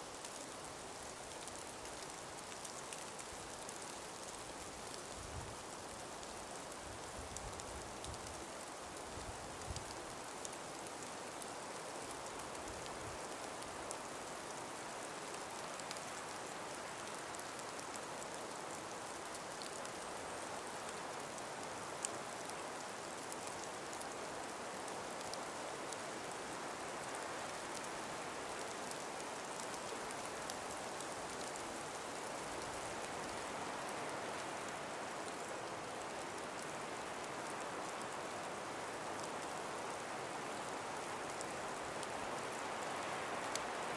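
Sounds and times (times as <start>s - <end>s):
breeze through forest: 0.0s - 43.9s
faint ticks: 1.3s - 43.9s.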